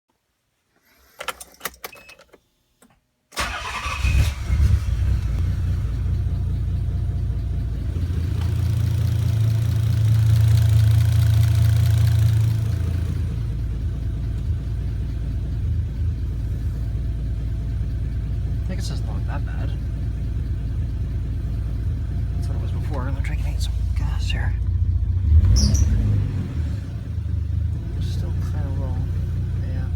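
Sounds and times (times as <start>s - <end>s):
car engine starting and idling: 3.3s - 29.9s.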